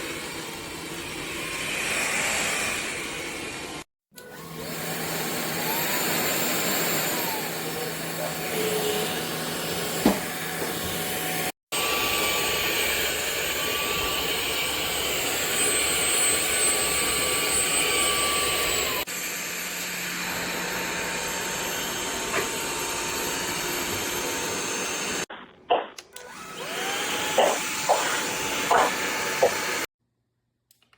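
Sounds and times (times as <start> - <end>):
stick vacuum motor whine: 0.0 - 29.9.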